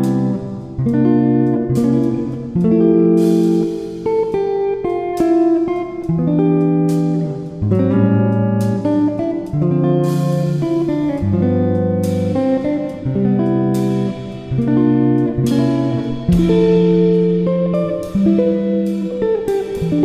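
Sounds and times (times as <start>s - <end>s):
guitar background music: 0.0s - 20.0s.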